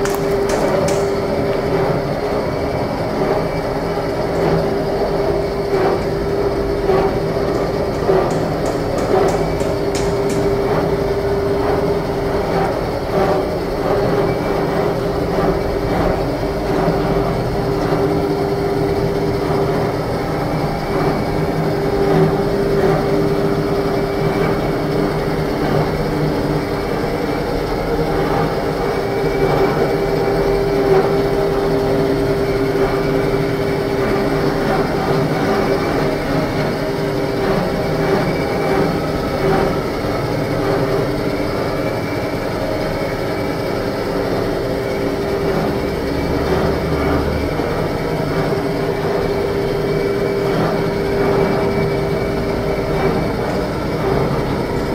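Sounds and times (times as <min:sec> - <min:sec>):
machinery rumbling and humming: 0:00.0 - 0:54.9.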